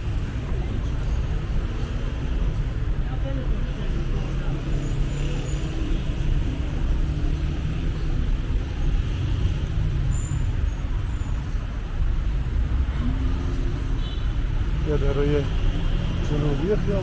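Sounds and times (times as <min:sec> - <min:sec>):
low rumble of passing cars: 0:00.0 - 0:17.0.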